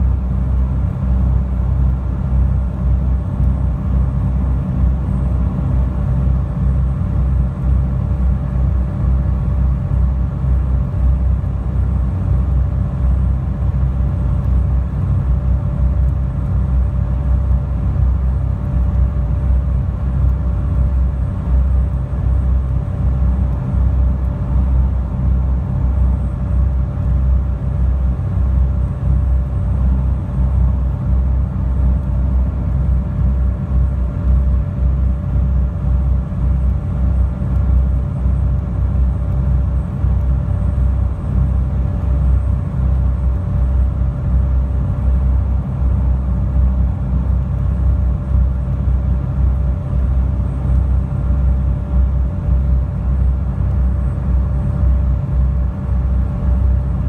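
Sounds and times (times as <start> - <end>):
faint steady whine: 0.0 - 57.0.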